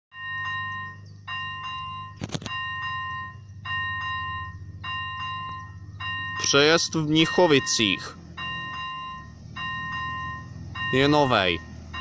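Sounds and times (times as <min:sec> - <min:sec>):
level crossing warning bell: 0:00.1 - 0:12.0
steady low hum: 0:00.2 - 0:11.0.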